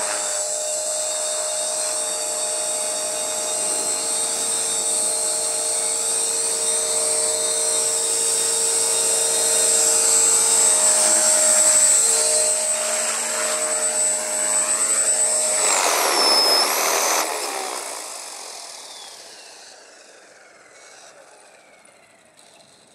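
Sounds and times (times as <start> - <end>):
rc helicopter motor whine: 0.0 - 22.9
rotor blades spinning: 0.0 - 22.9.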